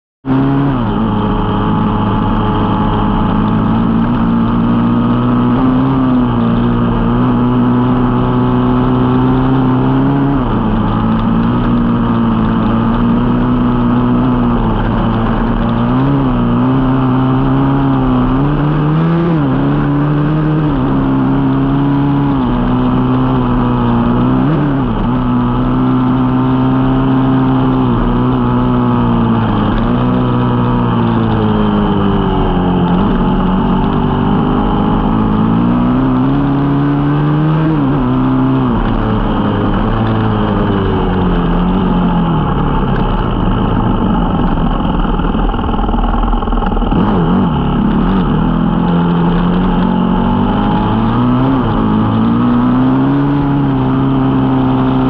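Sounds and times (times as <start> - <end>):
dirt bike engine revving: 0.2 - 55.0.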